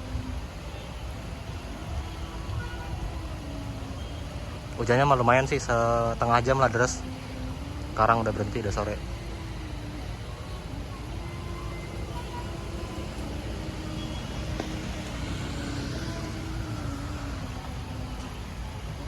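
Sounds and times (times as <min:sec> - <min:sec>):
road noise: 0:00.0 - 0:19.0
traffic engines rumbling: 0:00.0 - 0:19.0.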